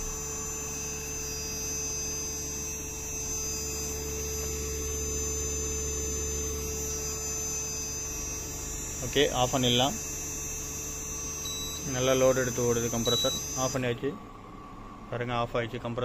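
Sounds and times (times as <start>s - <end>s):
air conditioner compressor hum: 0.0s - 16.0s.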